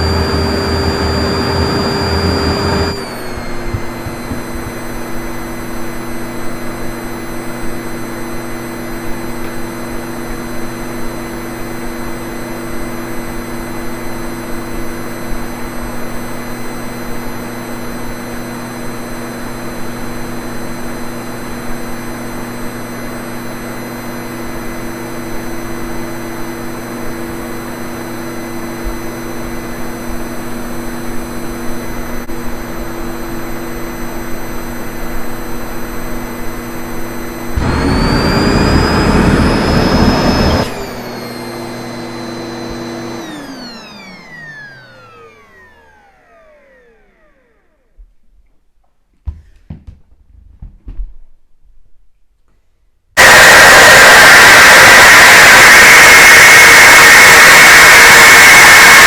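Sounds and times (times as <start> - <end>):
vacuum cleaner running: 0.0 - 48.0, 53.2 - 59.0.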